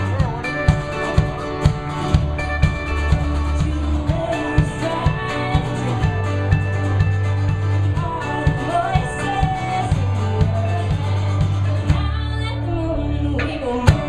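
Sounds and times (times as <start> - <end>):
folk-pop band playing: 0.0 - 14.0
woman singing: 0.0 - 14.0.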